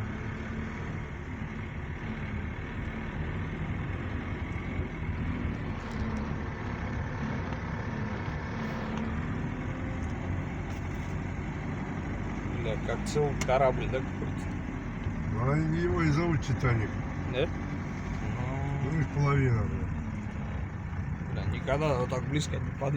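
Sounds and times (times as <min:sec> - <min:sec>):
vehicle engine and road noise: 0:00.0 - 0:22.9.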